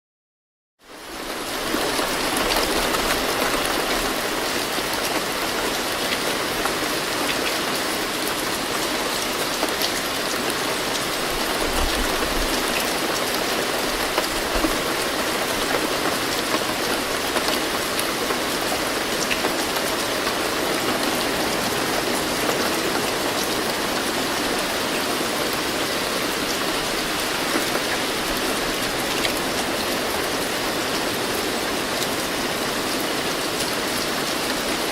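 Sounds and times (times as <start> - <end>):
rain hiss: 0.9 - 34.9.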